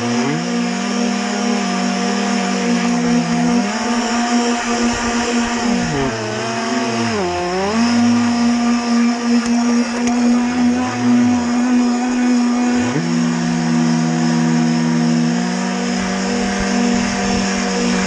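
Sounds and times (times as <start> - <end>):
electric motor whining: 0.0 - 18.0
rushing water: 0.0 - 18.0
wind: 0.0 - 18.0.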